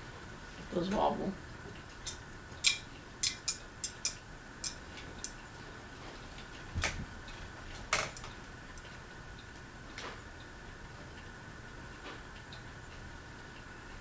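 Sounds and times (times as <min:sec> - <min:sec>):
ceiling fan humming: 0:00.0 - 0:14.0
light clicks of wobbling fan: 0:00.0 - 0:14.0.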